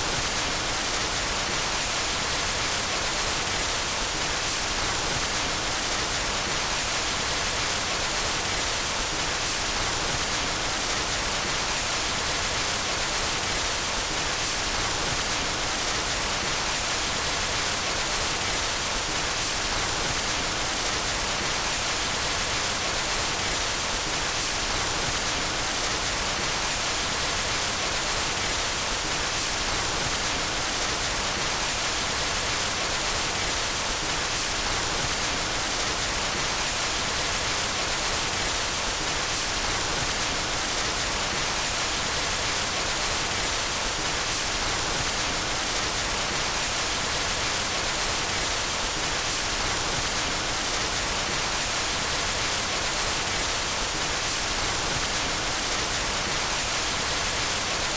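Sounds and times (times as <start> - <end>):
white noise hiss: 0.0 - 57.9.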